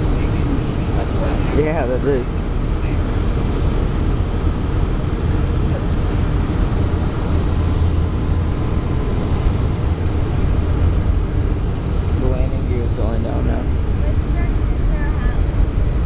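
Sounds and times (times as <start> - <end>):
airliner cabin drone: 0.0 - 16.0
jet engine and rushing airflow: 0.0 - 16.0.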